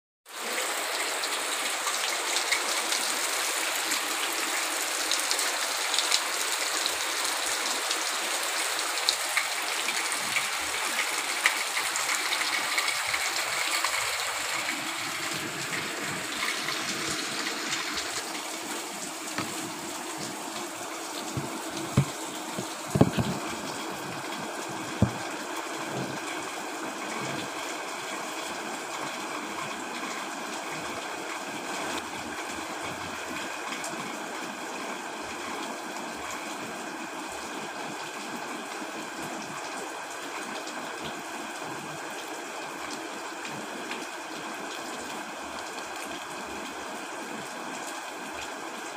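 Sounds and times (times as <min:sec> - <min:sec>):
heavy rain: 0:00.3 - 0:48.9.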